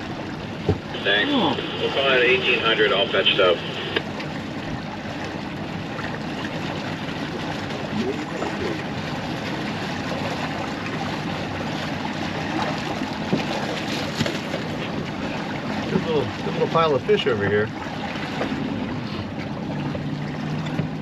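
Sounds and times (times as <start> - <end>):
outboard motor hum: 0.0 - 21.0
water splashing along boat hull: 0.0 - 21.0.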